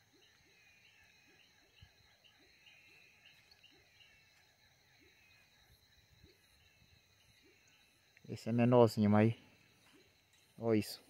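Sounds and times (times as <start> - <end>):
frogs and toads calling: 0.0 - 11.0
insects buzzing: 0.0 - 11.0.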